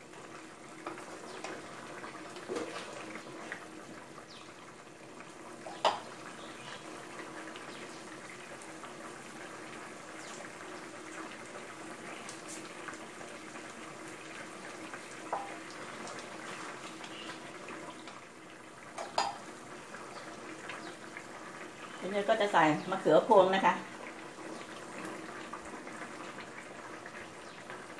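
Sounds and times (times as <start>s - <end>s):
curry bubbling in a pot: 0.0s - 27.9s.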